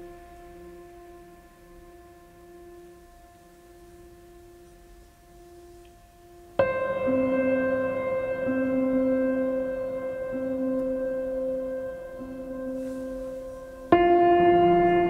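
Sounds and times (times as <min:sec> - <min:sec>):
soft keyboard music: 0:00.0 - 0:15.0.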